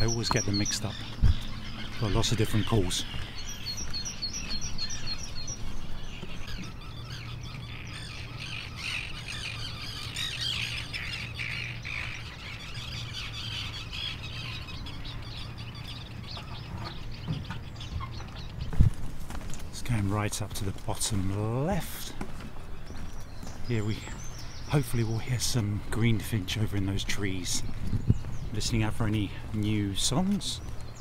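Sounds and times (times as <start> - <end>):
birds singing and calling: 0.0 - 31.0.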